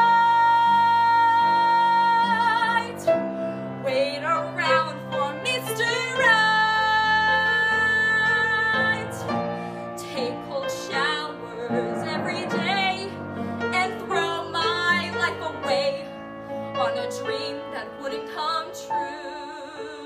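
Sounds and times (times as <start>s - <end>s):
piano accompaniment: 0.0s - 20.0s
woman singing a ballad: 0.0s - 20.0s.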